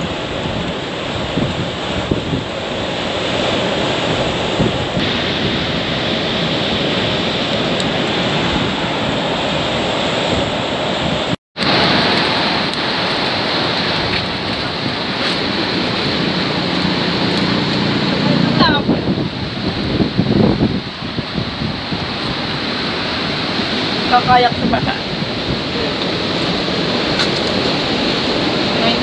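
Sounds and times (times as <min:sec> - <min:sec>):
waves breaking: 0:00.0 - 0:29.0
wind buffeting microphone: 0:00.0 - 0:29.0.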